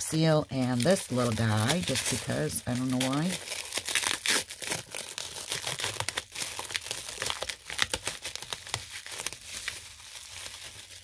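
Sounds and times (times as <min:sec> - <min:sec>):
bubble wrap and plastic crinkling: 0:00.0 - 0:11.0.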